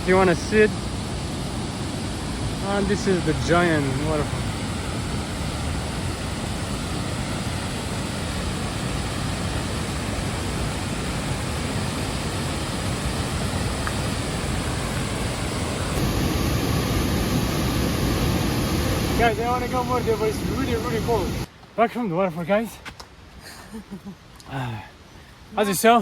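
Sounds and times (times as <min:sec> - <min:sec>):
waterfall roaring: 0:00.0 - 0:21.5.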